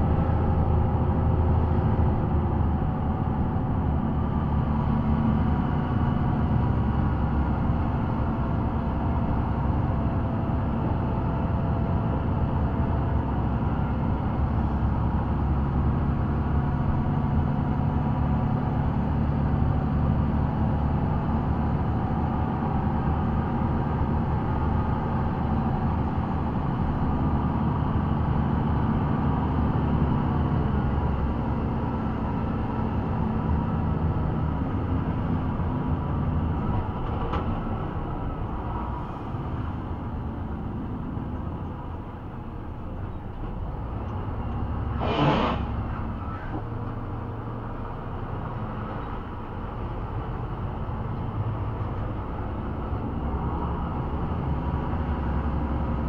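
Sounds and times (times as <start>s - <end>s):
vehicle engine drone: 0.0s - 56.0s.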